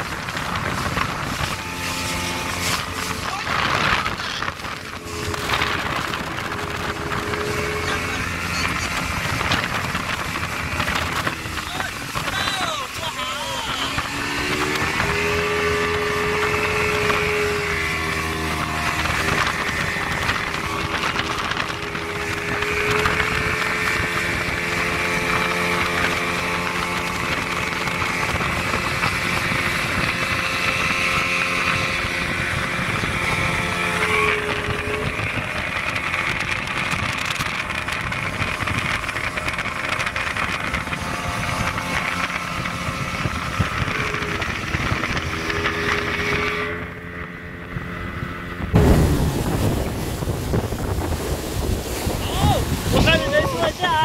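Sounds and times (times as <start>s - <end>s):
motorboat engine running: 0.0s - 54.0s
rushing wind and water: 0.0s - 54.0s
wind buffeting microphone: 0.0s - 54.0s.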